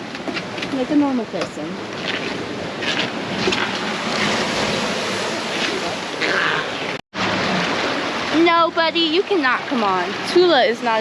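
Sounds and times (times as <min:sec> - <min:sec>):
surf: 0:00.0 - 0:11.0
wind: 0:00.0 - 0:11.0.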